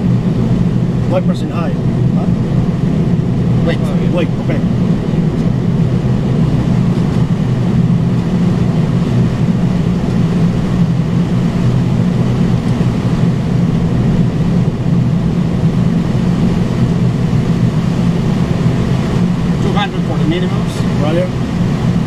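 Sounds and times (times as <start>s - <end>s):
airflow and jet engine rush: 0.0s - 22.0s.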